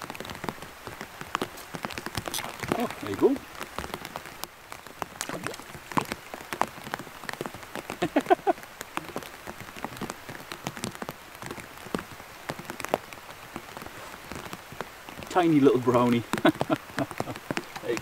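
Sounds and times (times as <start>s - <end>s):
heavy rain: 0.0s - 18.0s
raindrops tapping plastic bag: 0.0s - 18.0s.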